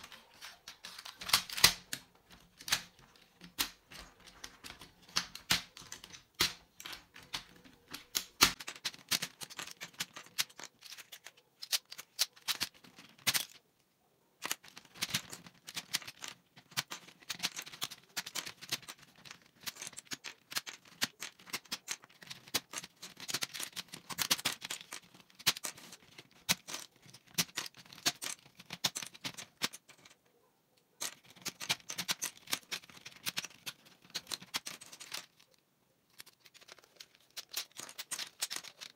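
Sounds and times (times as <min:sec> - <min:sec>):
plastic keycaps clicking and clattering: 0:00.0 - 0:13.6, 0:14.4 - 0:30.2, 0:30.9 - 0:38.9.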